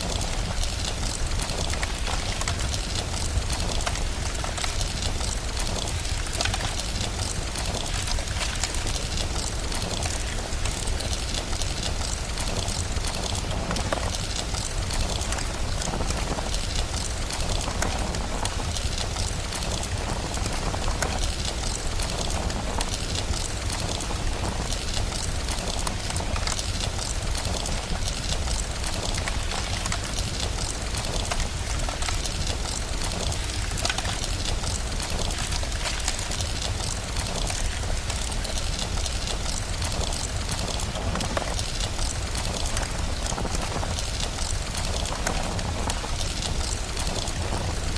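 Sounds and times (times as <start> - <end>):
steady rain: 0.0 - 47.9
wood fire crackling: 0.0 - 47.9.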